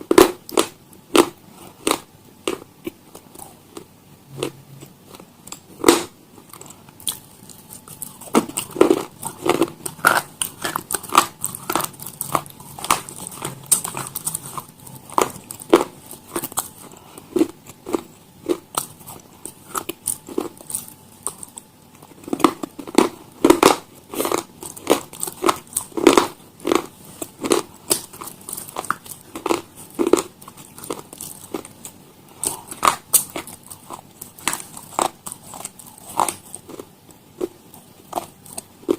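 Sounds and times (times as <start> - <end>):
crunchy food being chewed: 0.0 - 38.9.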